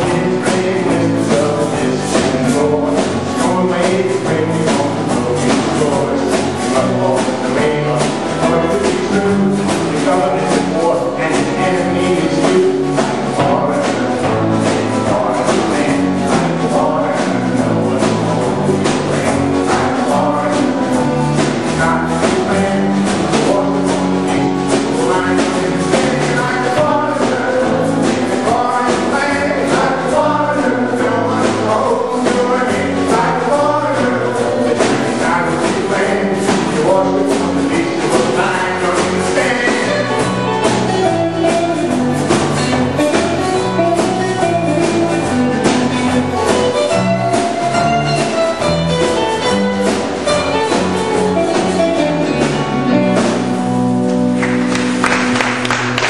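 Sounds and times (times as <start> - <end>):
acoustic and electric guitars: 0.0 - 56.0
person singing: 0.0 - 56.0
steady drum beat: 0.0 - 56.0.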